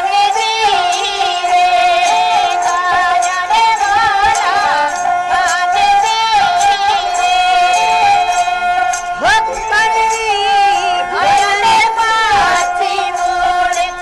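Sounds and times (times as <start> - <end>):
high wavering melody: 0.0 - 14.0
sharp percussion strokes: 0.3 - 14.0.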